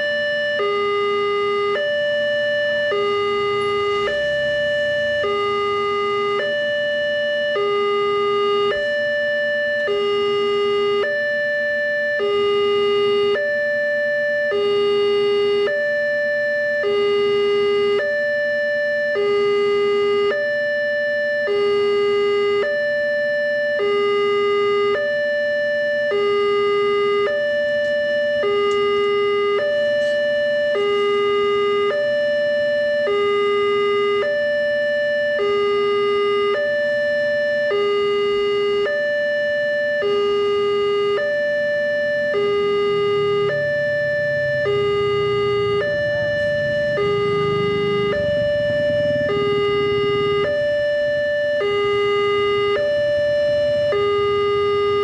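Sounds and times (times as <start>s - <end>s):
two-tone crossing alarm: 0.0s - 55.0s.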